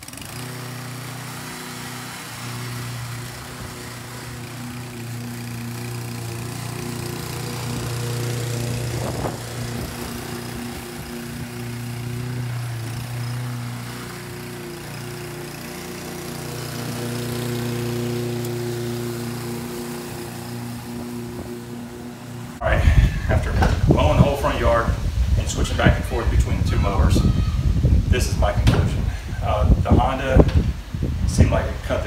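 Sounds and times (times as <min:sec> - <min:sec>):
lawn mower running: 0:00.0 - 0:32.0.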